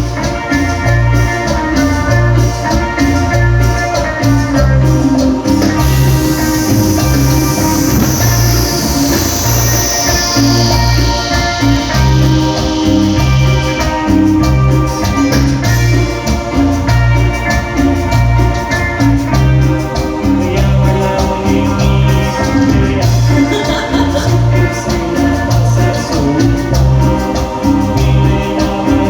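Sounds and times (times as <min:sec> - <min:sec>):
instrumental latin dance music: 0:00.0 - 0:29.0.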